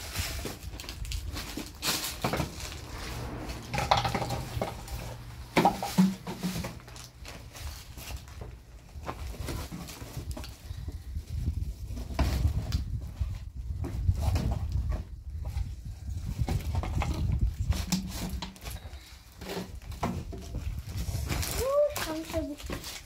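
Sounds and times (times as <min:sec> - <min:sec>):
knocks and crinkles: 0:00.0 - 0:15.7, 0:16.3 - 0:23.0
plastic and cardboard rustling: 0:00.0 - 0:23.0.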